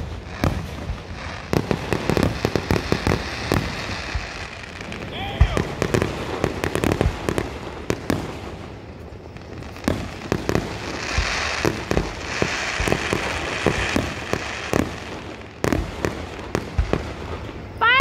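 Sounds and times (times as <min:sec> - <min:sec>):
fireworks bangs: 0:00.0 - 0:18.0
fireworks hissing crackle: 0:00.0 - 0:18.0.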